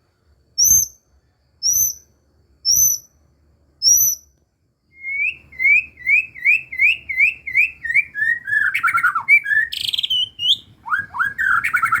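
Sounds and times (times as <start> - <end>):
songbird whistling song: 0.6 - 3.2, 3.8 - 12.0.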